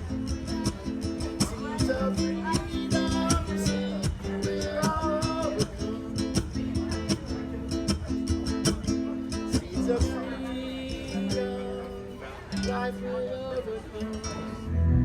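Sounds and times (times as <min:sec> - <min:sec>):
bending guitar melody: 0:00.0 - 0:15.0.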